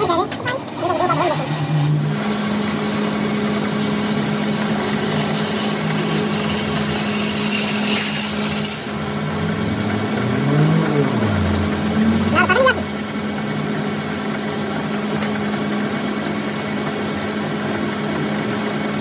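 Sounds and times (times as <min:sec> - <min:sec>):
machine humming: 0:00.0 - 0:17.3.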